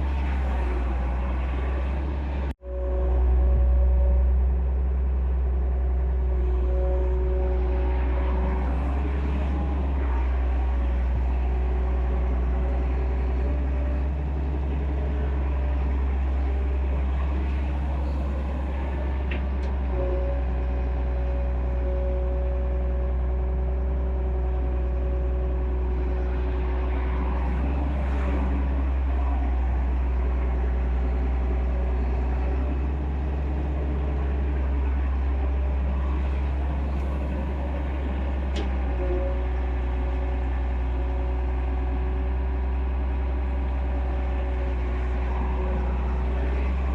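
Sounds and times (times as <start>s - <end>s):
excavator diesel engine rumble: 0.0s - 46.9s.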